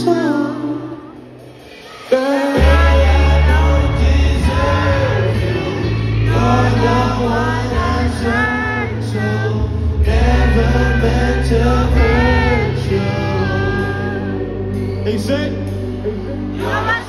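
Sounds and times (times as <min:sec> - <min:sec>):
person singing: 0:00.0 - 0:17.0
deep steady bass line: 0:02.6 - 0:17.0.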